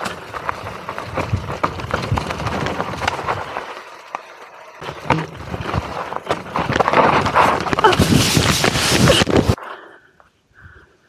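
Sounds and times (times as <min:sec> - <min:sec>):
bike rattling and knocking: 0:00.0 - 0:09.6
tyres rumbling over dirt: 0:00.0 - 0:09.6.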